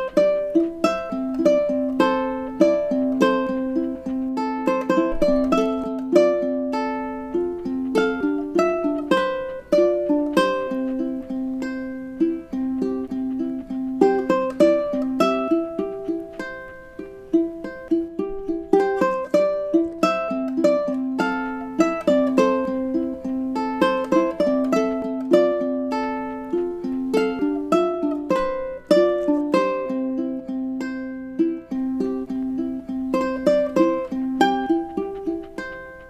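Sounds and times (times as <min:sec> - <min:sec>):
ukulele playing: 0:00.0 - 0:36.0.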